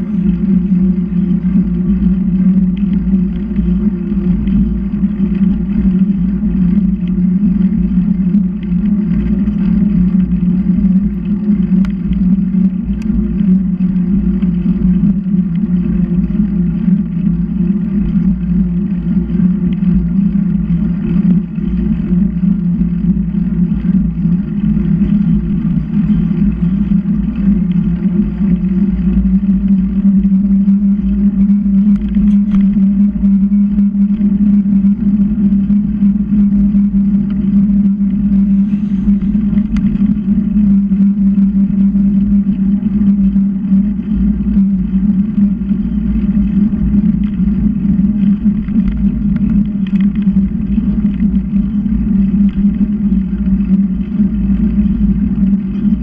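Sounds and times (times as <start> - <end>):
low hum: 0.0 - 56.0
wind and road noise: 0.0 - 56.0.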